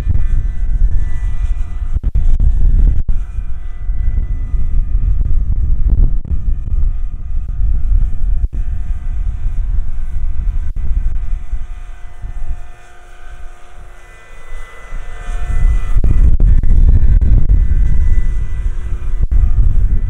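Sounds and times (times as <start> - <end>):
electric motor whine: 0.0 - 20.0
model helicopter rotor noise: 0.0 - 20.0.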